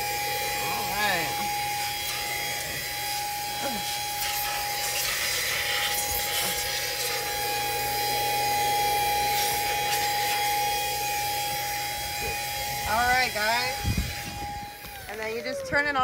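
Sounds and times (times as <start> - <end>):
handheld vacuum motor whine: 0.0 - 16.0.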